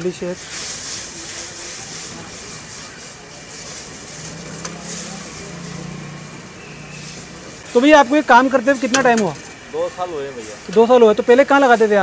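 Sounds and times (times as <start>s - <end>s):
ladle stirring in a wok: 0.0s - 12.0s
noodles sizzling in a wok: 0.0s - 12.0s.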